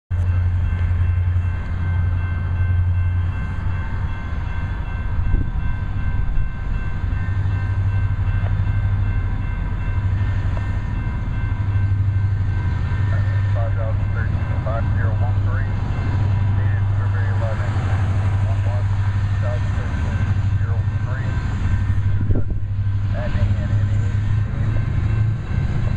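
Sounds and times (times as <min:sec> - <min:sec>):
diesel locomotive engines droning: 0:00.1 - 0:25.9.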